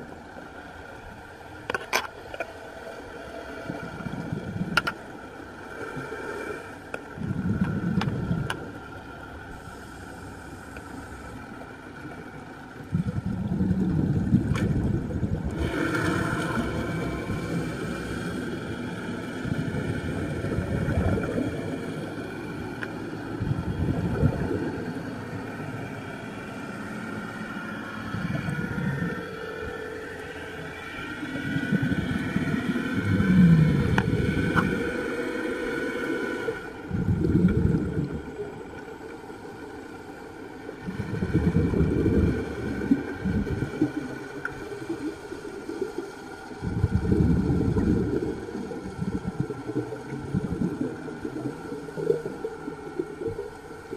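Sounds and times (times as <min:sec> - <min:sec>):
faint steady whine: 0:00.0 - 0:53.9
exhaled bubbles rumbling underwater: 0:03.0 - 0:06.2, 0:07.1 - 0:09.8, 0:10.4 - 0:53.9.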